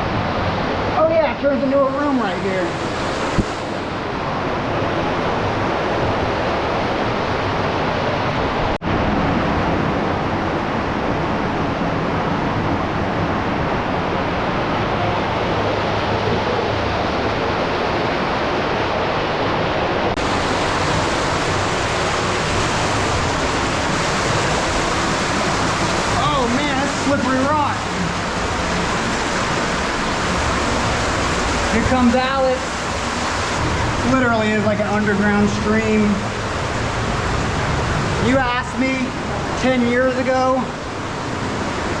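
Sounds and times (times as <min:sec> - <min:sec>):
rushing stream and waterfalls: 0:00.0 - 0:42.0.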